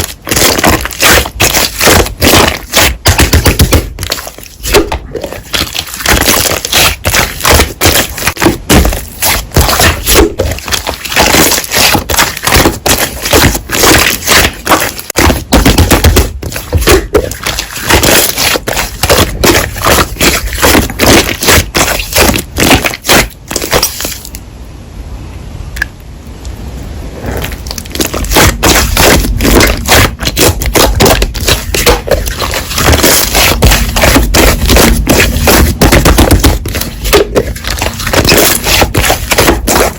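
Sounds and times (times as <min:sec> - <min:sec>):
slime crackling and popping: 0:00.0 - 0:24.3, 0:27.4 - 0:39.9.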